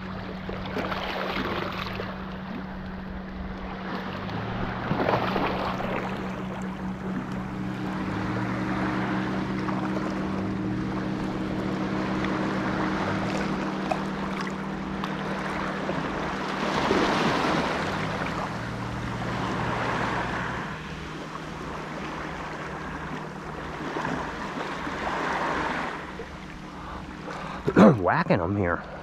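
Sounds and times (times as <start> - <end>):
seawater sloshing around legs: 0.0 - 28.0
steady low hum: 0.0 - 29.0.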